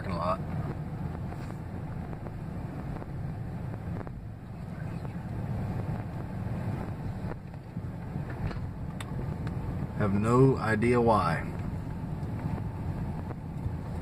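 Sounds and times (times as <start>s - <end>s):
road noise: 0.0s - 14.0s
truck engine rumbling: 0.0s - 14.0s.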